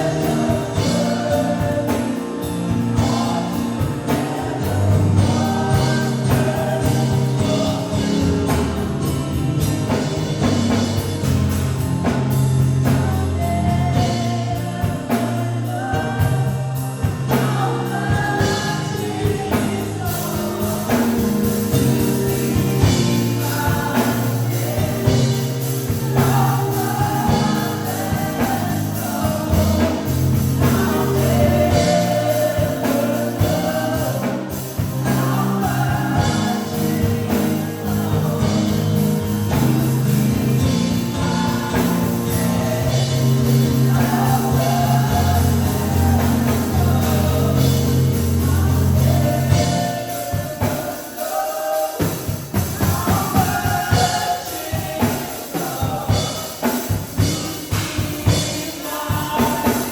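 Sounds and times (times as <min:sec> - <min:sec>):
band with sustained bass: 0:00.0 - 0:50.2
gospel singers: 0:00.0 - 0:59.9.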